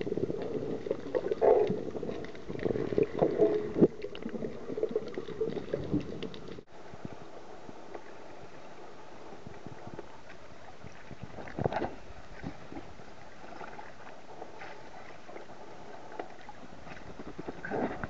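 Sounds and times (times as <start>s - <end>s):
sea water lapping and sloshing: 0.0s - 18.0s.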